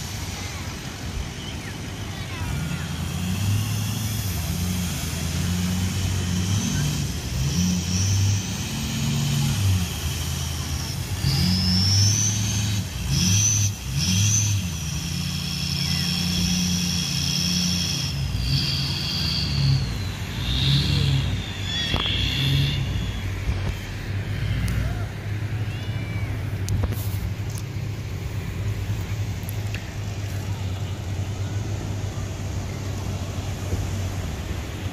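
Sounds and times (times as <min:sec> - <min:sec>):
high whine: 0:00.0 - 0:34.9
pickup engine revving: 0:02.1 - 0:34.9.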